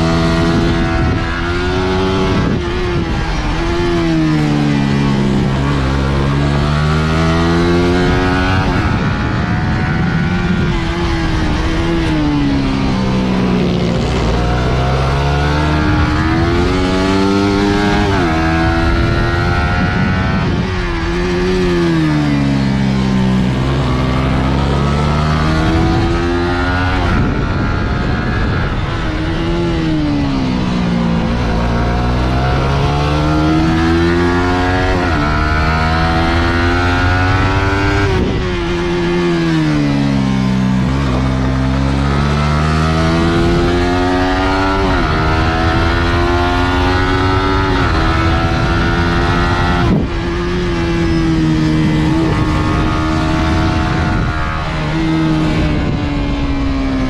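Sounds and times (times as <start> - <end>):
motorcycle engine revving: 0.0 - 57.0
steady rush of noise: 0.0 - 57.0.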